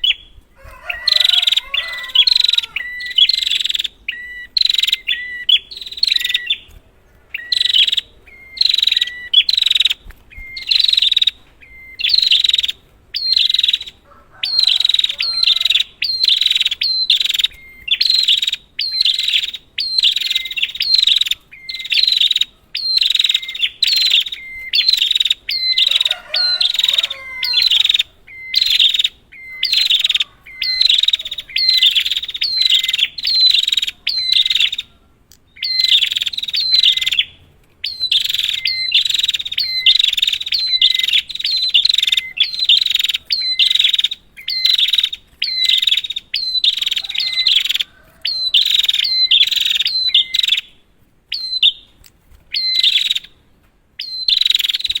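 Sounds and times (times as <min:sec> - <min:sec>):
prinia chattering calls: 0:00.0 - 0:51.9, 0:52.5 - 0:53.4, 0:54.0 - 0:55.0.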